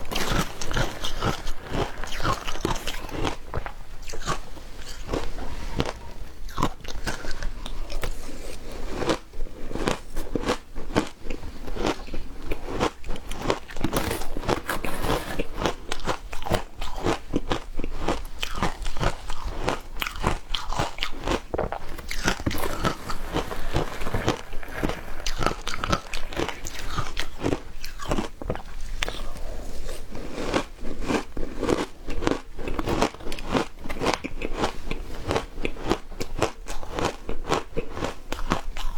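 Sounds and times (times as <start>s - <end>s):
crunchy ice being chewed: 0.0s - 38.9s.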